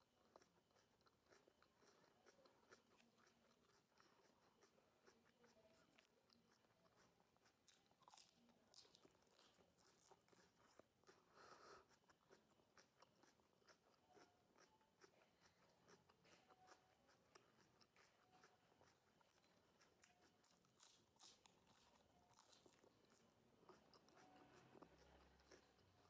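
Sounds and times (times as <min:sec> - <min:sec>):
crunching of lettuce being chewed: 0:00.0 - 0:26.0.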